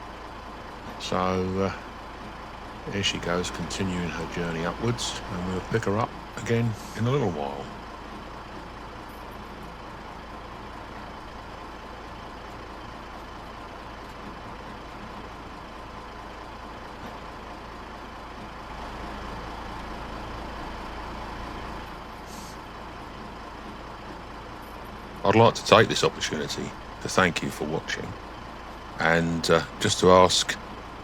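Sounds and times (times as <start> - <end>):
outdoor engine rumble: 0.0 - 31.0.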